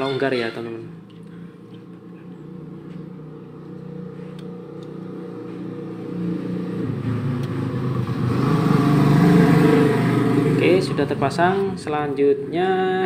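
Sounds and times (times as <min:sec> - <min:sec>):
vehicle engine running: 0:01.0 - 0:12.9.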